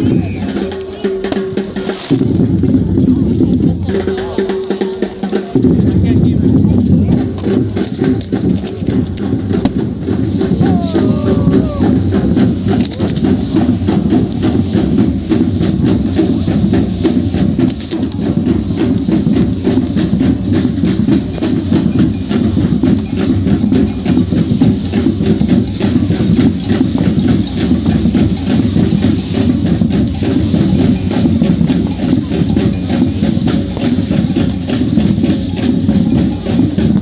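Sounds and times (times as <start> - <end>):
horses' hooves clip-clopping: 0.0 - 37.0.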